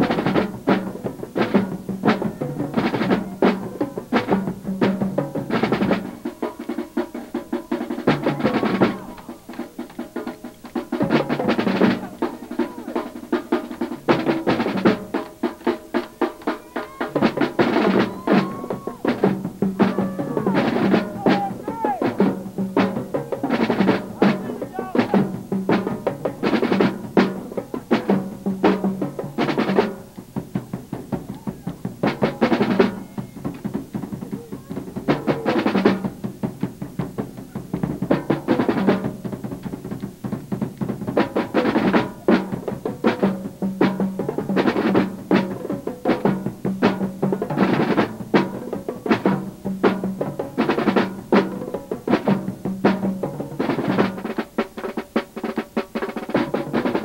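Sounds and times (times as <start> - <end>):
marching drumline playing: 0.0 - 57.0.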